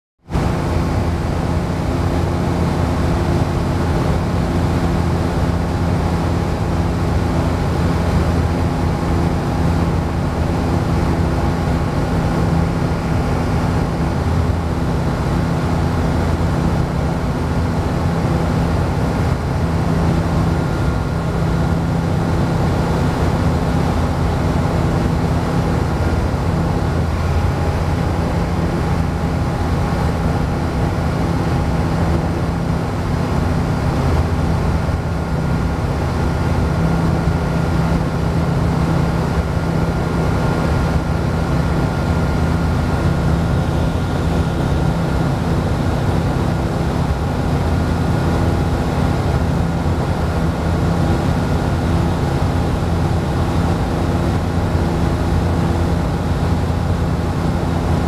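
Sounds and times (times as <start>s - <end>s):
aircraft engine and propeller droning: 0.2s - 58.0s.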